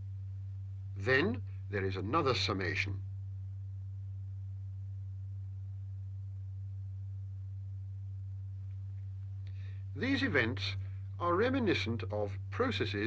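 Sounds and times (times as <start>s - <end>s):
steady low sine tone: 0.0s - 13.0s.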